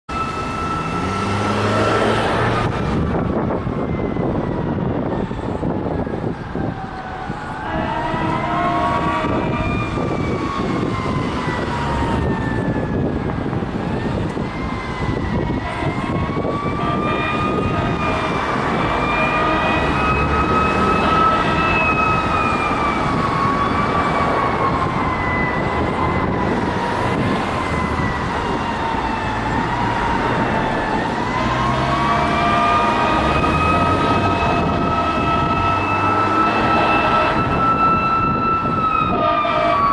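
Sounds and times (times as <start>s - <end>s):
engine rumble and road noise: 0.1s - 39.9s
fire engine siren wailing: 0.1s - 39.9s.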